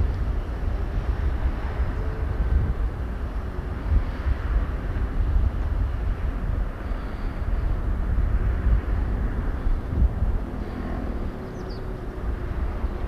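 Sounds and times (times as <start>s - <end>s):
gusty wind buffeting: 0.0s - 13.0s
low uneven rumble: 0.0s - 13.0s.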